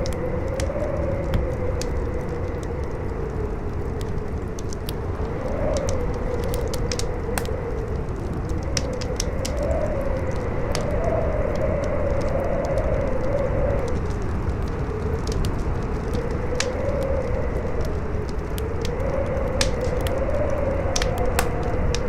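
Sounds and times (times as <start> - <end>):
crackling fire popping: 0.0 - 22.0
howling wind: 0.0 - 22.0.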